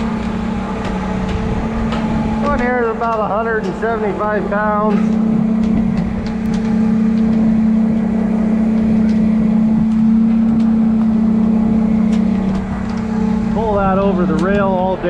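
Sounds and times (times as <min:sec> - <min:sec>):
boat engine droning: 0:00.0 - 0:15.0
wind: 0:00.0 - 0:15.0.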